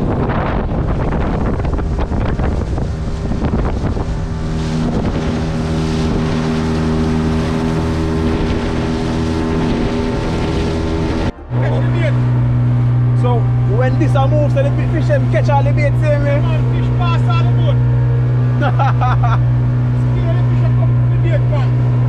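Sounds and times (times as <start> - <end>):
outboard motor drone: 0.0 - 22.0
water rushing past hull: 0.0 - 22.0
wind buffeting microphone: 0.0 - 22.0.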